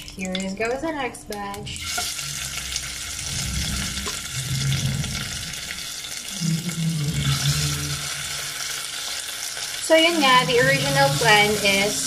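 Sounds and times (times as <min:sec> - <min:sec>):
chicken sizzling in hot oil: 0:01.4 - 0:12.0.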